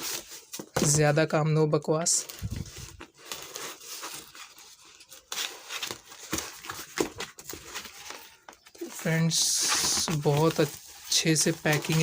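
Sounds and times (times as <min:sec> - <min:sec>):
packaging crinkling and tearing: 0:02.2 - 0:12.0.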